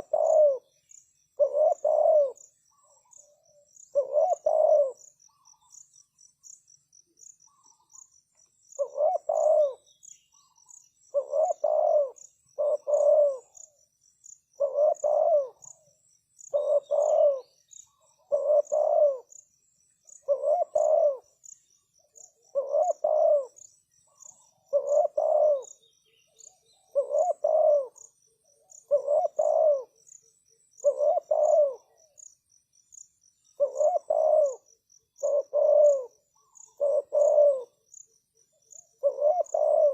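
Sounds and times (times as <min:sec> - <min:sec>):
dove cooing: 0:00.0 - 0:05.7, 0:08.7 - 0:13.8, 0:14.5 - 0:19.4, 0:20.1 - 0:21.4, 0:22.0 - 0:32.3, 0:33.6 - 0:38.0, 0:38.7 - 0:39.9
faint high-pitched chirping: 0:00.0 - 0:39.9.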